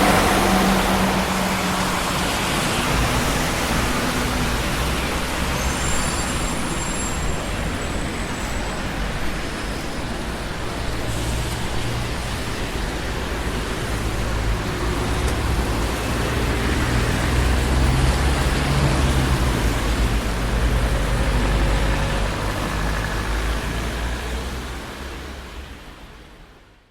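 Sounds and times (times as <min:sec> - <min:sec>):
city street traffic: 0:00.0 - 0:26.9.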